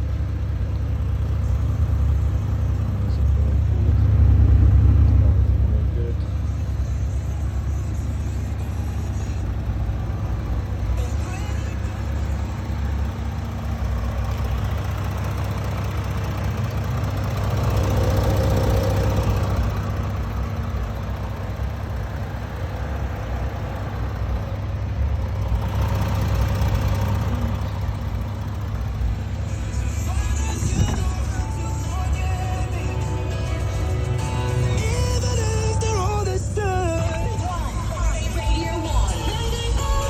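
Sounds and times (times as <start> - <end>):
diesel engine rumbling: 0.0 - 40.0.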